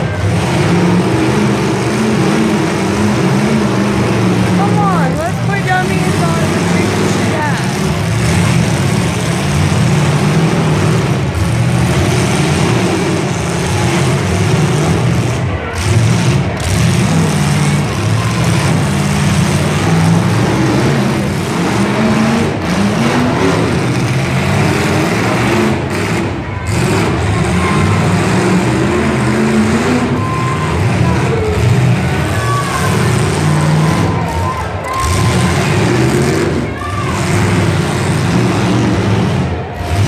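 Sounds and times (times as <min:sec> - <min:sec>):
car engines revving loudly: 0:00.0 - 0:40.0
crowd chatter: 0:00.0 - 0:40.0.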